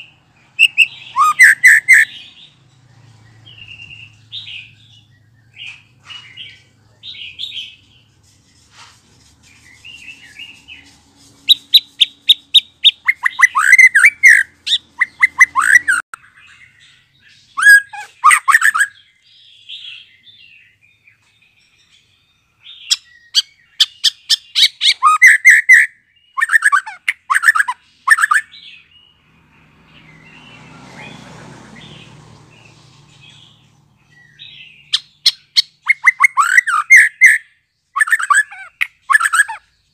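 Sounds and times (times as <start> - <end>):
bird singing sharp repeated notes: 0.0 - 8.1, 11.5 - 29.2, 31.8 - 39.9
soft bird chirps: 0.0 - 39.9.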